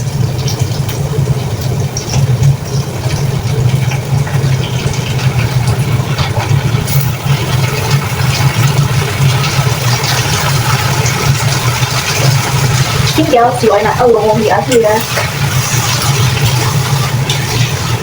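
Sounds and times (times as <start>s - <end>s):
food frying in oil: 0.0s - 18.0s
low mechanical hum: 0.0s - 18.0s.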